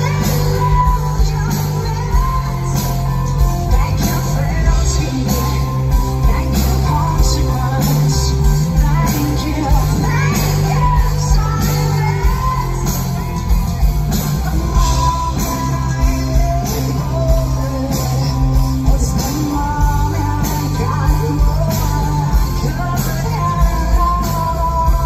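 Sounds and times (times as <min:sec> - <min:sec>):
live rock band: 0:00.0 - 0:25.0
woman singing: 0:00.0 - 0:25.0.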